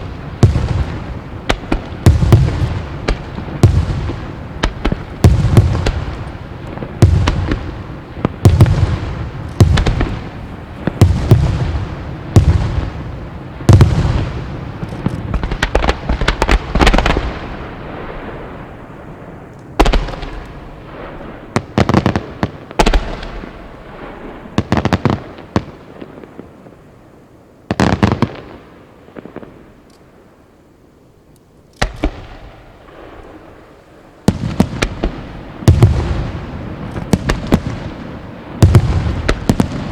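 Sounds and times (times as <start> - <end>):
fireworks crackle: 0.0 - 26.9, 31.8 - 39.9
fireworks bursting with booms: 0.0 - 30.4, 31.8 - 39.9.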